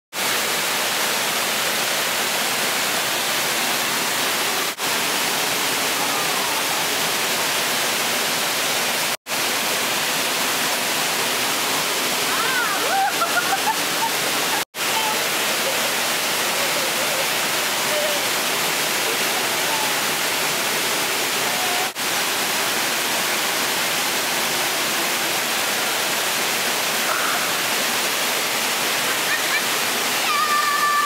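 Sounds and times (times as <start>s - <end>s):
waterfall rushing over rocks: 0.2s - 31.0s.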